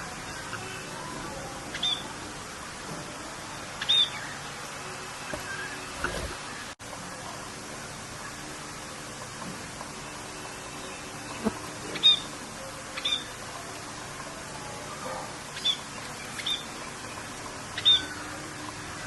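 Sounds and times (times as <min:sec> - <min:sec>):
birds chirping: 0:00.0 - 0:19.0
rain hissing: 0:00.0 - 0:19.0.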